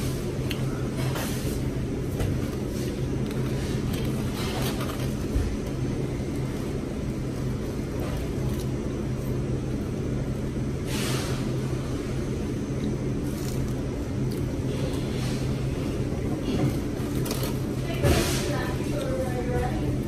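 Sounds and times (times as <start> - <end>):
low machine hum: 0.0 - 20.0
rustles and clicks of eating: 0.0 - 20.0.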